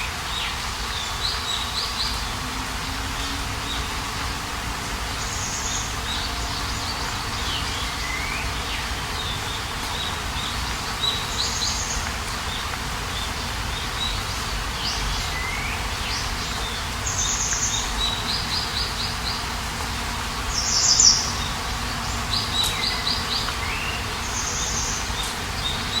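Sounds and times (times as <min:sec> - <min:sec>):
outdoor ambience hiss: 0:00.0 - 0:26.0
songbirds trilling and whistling: 0:00.0 - 0:26.0.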